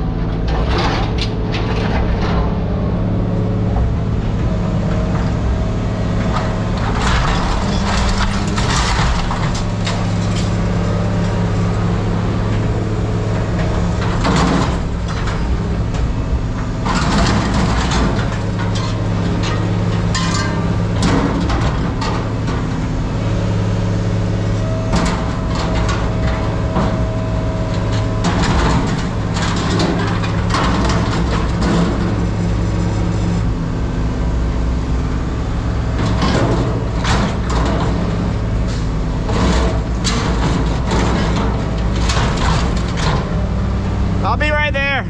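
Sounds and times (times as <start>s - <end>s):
scrap metal clanking and banging: 0.0s - 33.5s, 34.6s - 44.9s
heavy diesel engine running: 0.0s - 45.0s.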